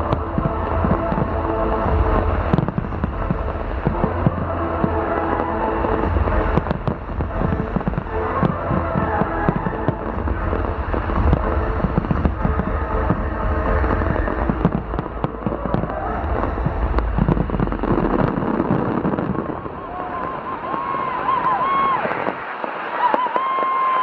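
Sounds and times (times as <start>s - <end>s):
deep rumble: 0.0s - 22.0s
music playing: 0.0s - 22.2s
fireworks bangs and crackles: 0.0s - 24.0s.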